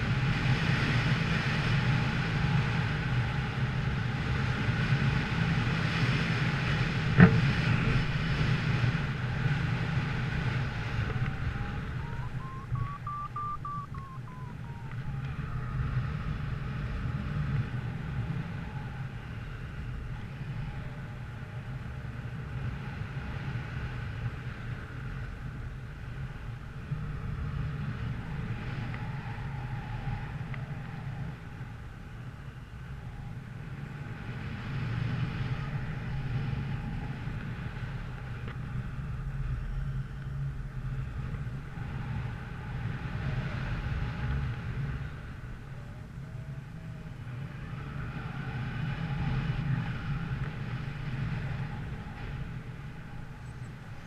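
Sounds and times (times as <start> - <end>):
faint whine: 0.0 - 54.0
vehicle engine rumble: 0.0 - 54.0.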